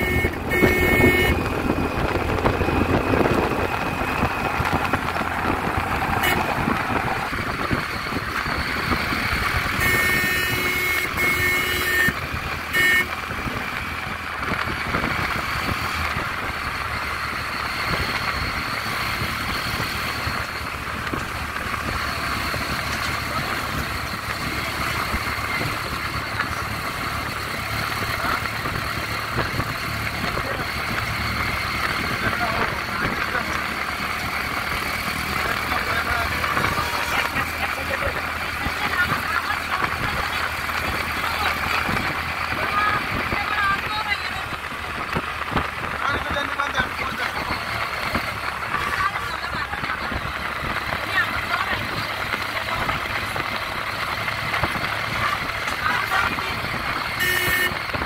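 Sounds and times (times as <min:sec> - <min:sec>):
vehicle road noise: 0:00.0 - 0:58.0.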